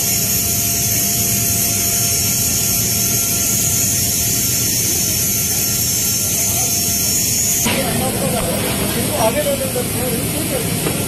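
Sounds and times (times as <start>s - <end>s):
jet engine noise in aircraft: 0.0s - 11.0s.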